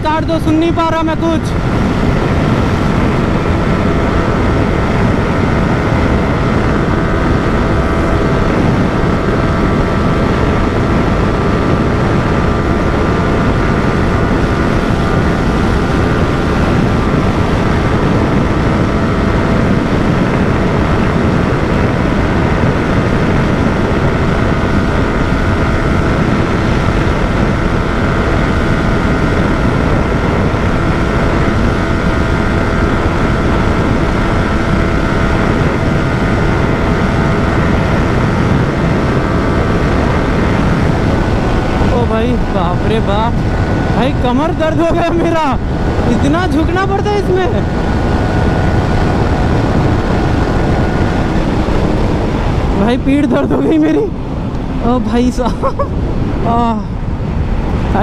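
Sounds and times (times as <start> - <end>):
motorcycle engine at high revs: 0.0 - 58.0
wind rush on microphone: 0.0 - 58.0.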